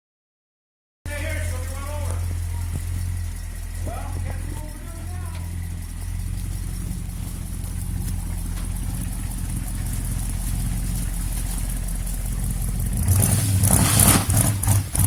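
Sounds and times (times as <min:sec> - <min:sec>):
truck engine idling and revving: 0:01.1 - 0:15.0.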